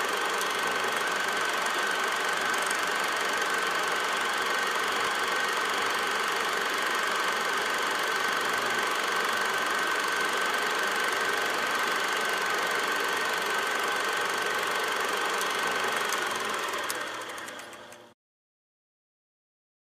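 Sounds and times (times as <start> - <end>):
film projector whirring: 0.0 - 18.2.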